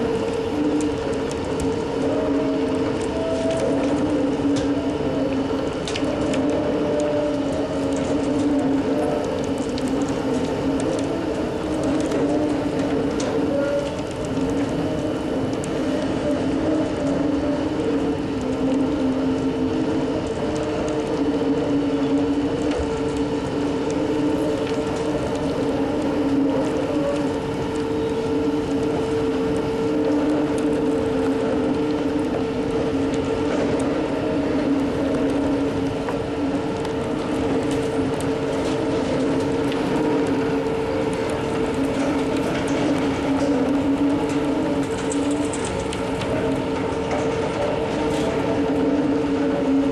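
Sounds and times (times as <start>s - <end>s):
excavator machinery drone: 0.0s - 49.9s.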